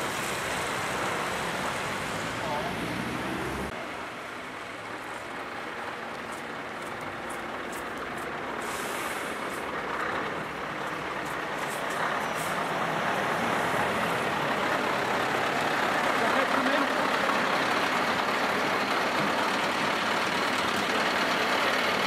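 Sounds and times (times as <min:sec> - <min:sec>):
lorry diesel engine running: 0:00.0 - 0:22.0
road traffic: 0:00.0 - 0:22.0.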